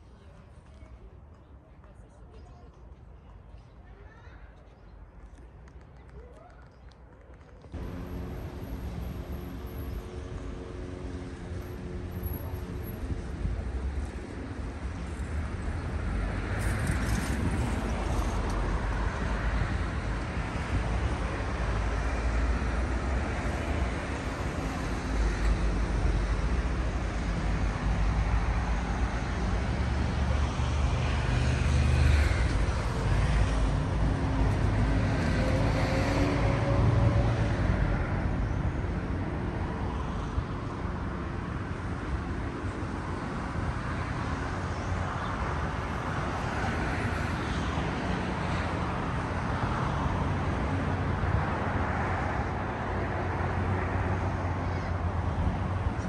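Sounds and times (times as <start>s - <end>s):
cars passing: 7.7s - 56.0s.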